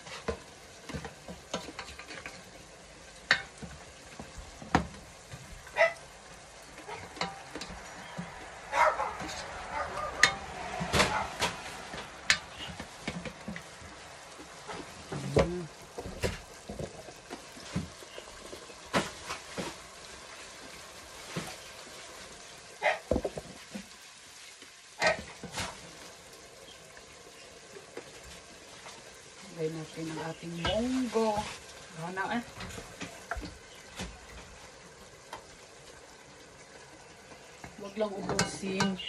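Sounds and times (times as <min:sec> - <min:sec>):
meat and vegetables sizzling: 0:00.0 - 0:39.0.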